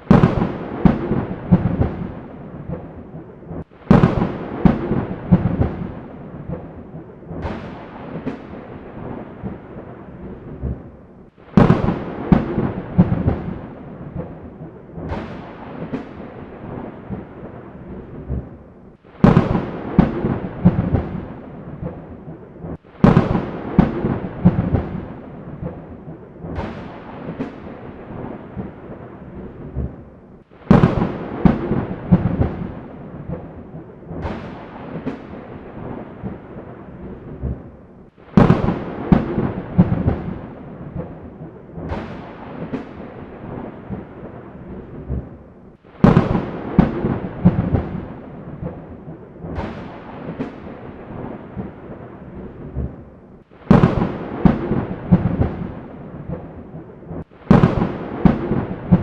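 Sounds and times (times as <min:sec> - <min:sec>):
rain: 0:00.0 - 0:59.0
thunder claps: 0:00.0 - 0:59.0.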